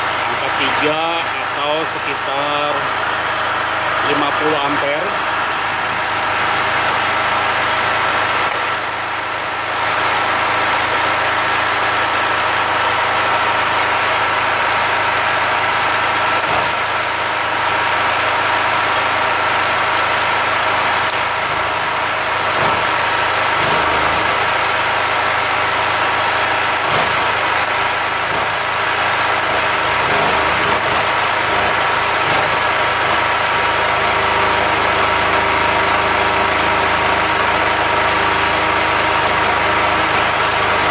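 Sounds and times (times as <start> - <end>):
generator engine running: 0.0 - 40.9
welding arc crackling: 0.0 - 40.9.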